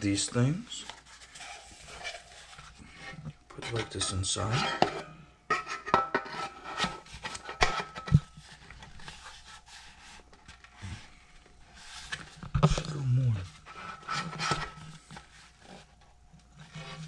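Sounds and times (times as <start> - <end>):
rubbing and scraping: 0.8 - 17.0.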